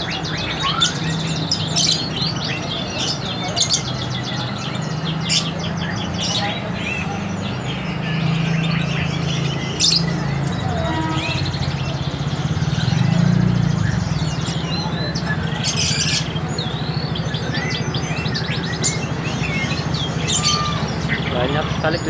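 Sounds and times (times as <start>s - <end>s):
canaries chirping: 0.0s - 22.0s.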